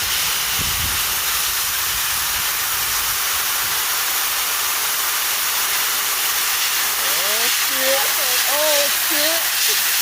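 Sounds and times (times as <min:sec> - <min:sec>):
air jet hissing: 0:00.0 - 0:10.0.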